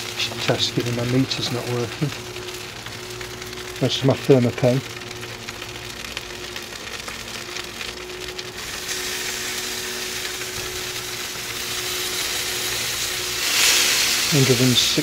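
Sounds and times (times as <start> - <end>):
chicken sizzling on a grill: 0.0 - 15.0
low steady hum: 0.0 - 15.0.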